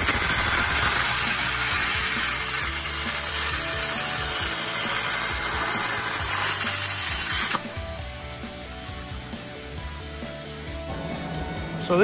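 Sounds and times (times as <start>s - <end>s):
plasma cutter arc hissing: 0.0s - 10.9s.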